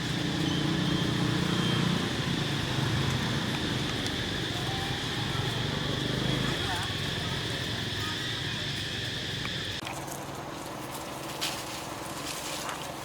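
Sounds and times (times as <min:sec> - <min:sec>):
engine running with low hum: 0:00.0 - 0:13.0.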